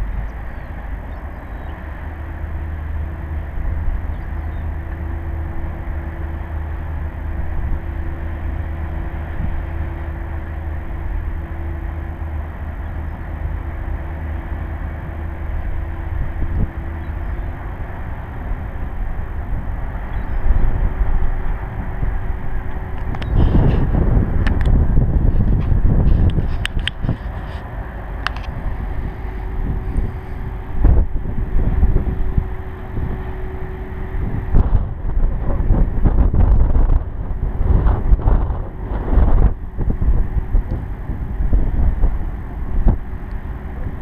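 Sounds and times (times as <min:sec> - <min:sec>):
faint steady hum: 0:00.0 - 0:44.0
ship engine rumble: 0:00.0 - 0:44.0.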